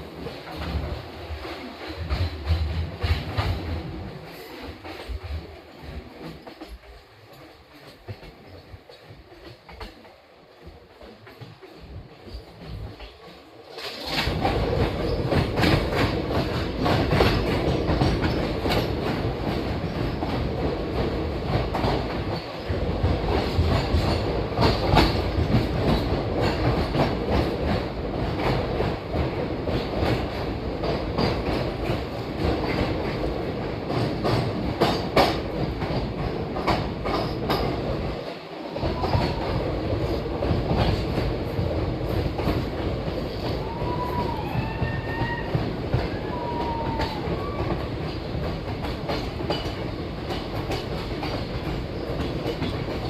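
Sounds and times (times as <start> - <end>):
train rumble: 0.0 - 53.0
train wheels clattering over rail joints: 0.0 - 53.0.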